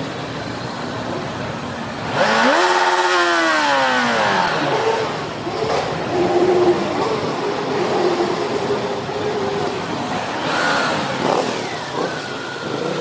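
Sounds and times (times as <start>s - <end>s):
riding noise rush: 0.0s - 13.0s
motorcycle engine revving: 1.9s - 13.0s.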